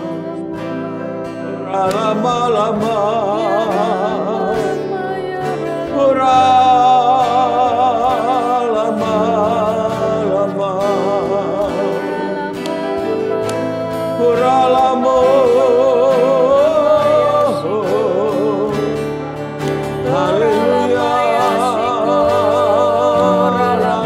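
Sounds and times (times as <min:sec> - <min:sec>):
instrumental accompaniment: 0:00.0 - 0:24.0
man singing with vibrato: 0:00.0 - 0:24.0.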